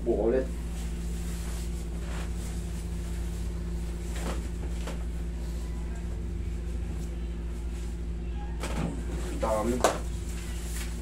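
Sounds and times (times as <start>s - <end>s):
air conditioner hum: 0.0s - 11.0s.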